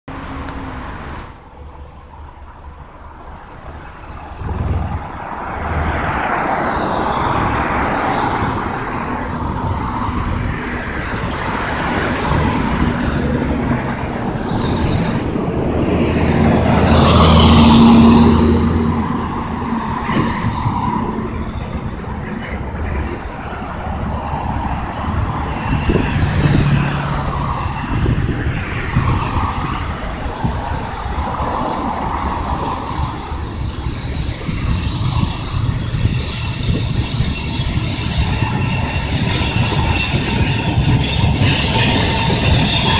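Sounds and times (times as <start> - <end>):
cars passing on a road: 0.1 - 42.9.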